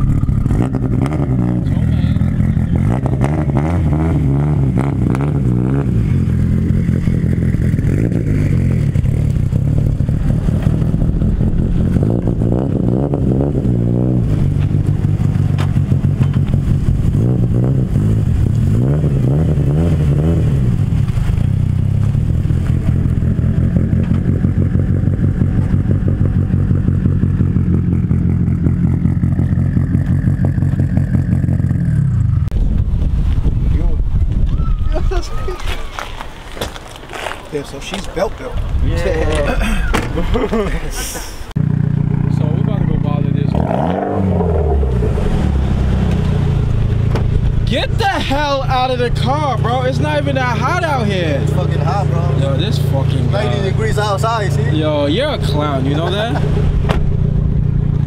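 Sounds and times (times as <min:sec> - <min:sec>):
car engine revving: 0:00.0 - 0:32.6, 0:41.5 - 0:58.0.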